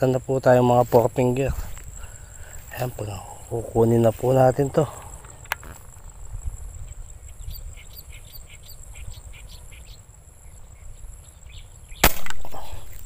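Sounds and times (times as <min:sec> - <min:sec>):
insect trill: 0:00.0 - 0:13.0
wind rumble on microphone: 0:00.8 - 0:13.0.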